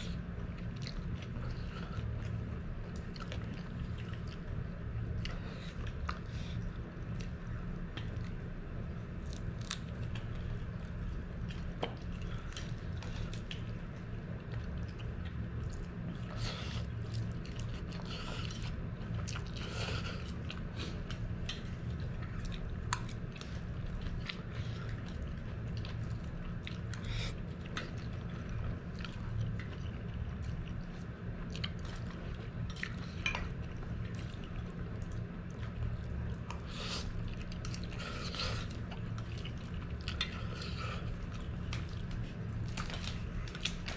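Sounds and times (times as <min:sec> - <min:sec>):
chewing and slurping noodles: 0:00.0 - 0:43.9
steady low hum: 0:00.0 - 0:43.9.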